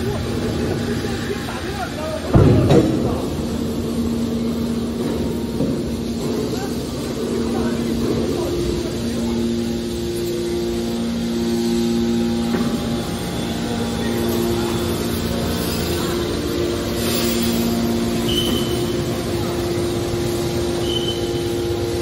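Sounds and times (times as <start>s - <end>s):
machine hum: 0.0s - 22.0s
two-note hydraulic whine: 0.0s - 22.0s.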